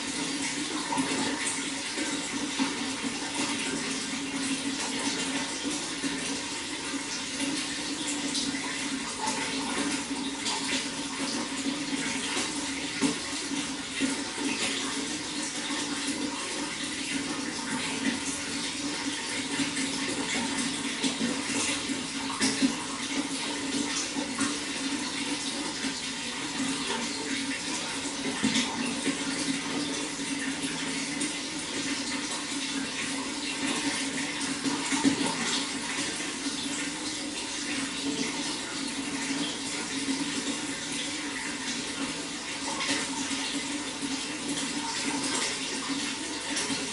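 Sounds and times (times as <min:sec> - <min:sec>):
running water splashing: 0:00.0 - 0:46.9.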